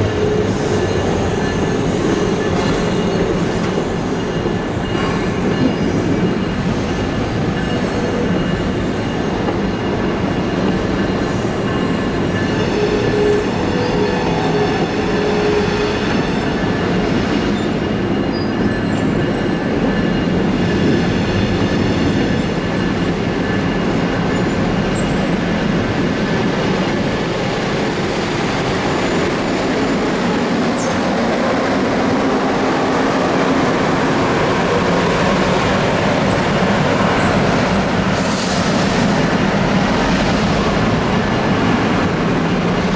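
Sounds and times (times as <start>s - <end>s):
train wheels on rails: 0.0s - 42.9s.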